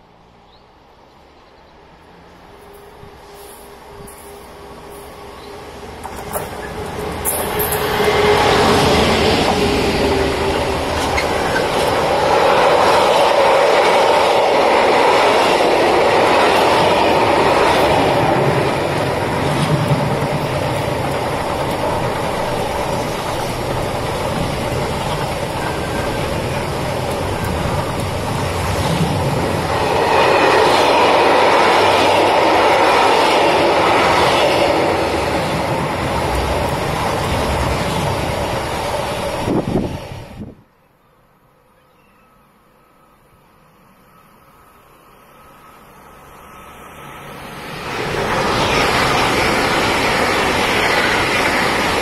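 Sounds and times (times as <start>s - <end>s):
freight train wheels rumbling: 2.1s - 40.7s, 43.6s - 52.0s.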